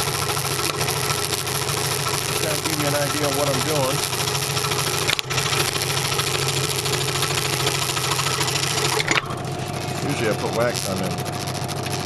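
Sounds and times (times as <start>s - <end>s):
saw motor humming: 0.0s - 12.0s
scroll saw blade cutting wood: 0.0s - 12.0s.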